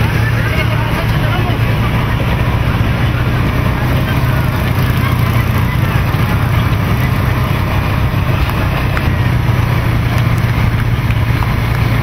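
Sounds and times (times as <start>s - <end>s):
vehicle engine running steadily: 0.0s - 12.0s.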